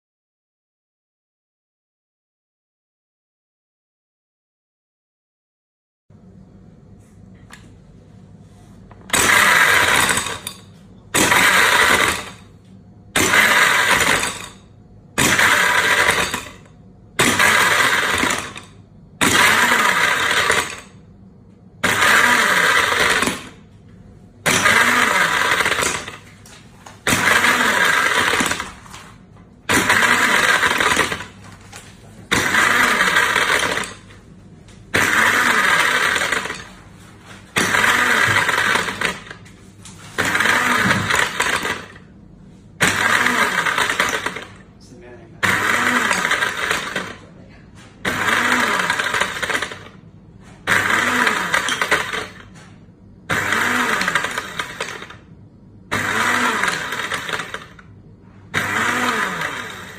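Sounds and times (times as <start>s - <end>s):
blender motor pulsing: 9.0s - 21.1s, 21.8s - 23.7s, 24.4s - 31.7s, 32.3s - 34.2s, 34.9s - 59.9s.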